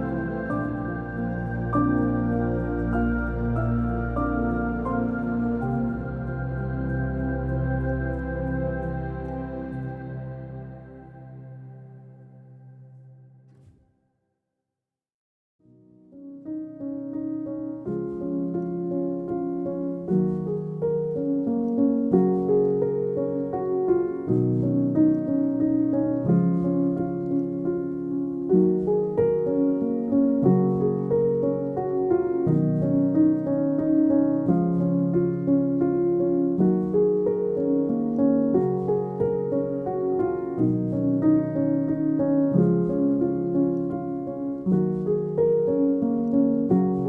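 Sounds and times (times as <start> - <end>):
slow piano chords: 0.0 - 13.8, 15.7 - 47.0.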